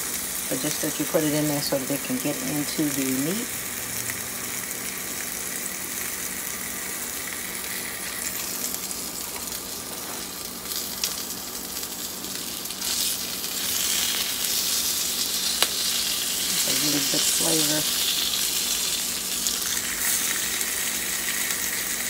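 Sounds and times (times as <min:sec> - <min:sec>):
fish sizzling on grill: 0:00.0 - 0:22.0.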